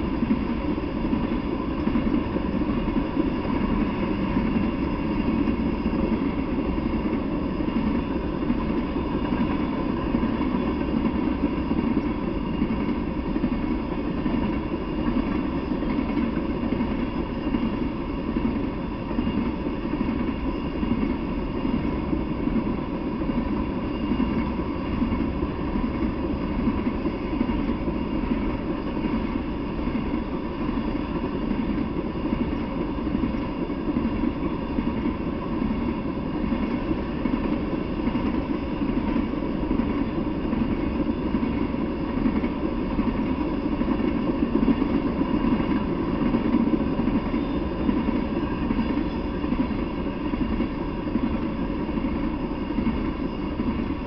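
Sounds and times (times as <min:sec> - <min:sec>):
freight train rolling past: 0:00.0 - 0:54.0
steel wheels rumbling on rails: 0:00.0 - 0:54.0.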